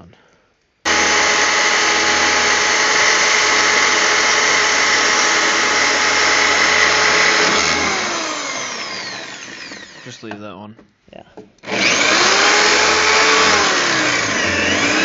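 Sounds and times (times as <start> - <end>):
electric drill drilling: 0.9 - 10.3, 11.6 - 15.0.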